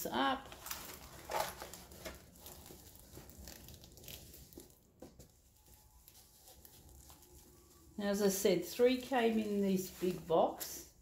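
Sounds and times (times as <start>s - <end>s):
plastic rustling and crinkling: 0.0s - 11.0s.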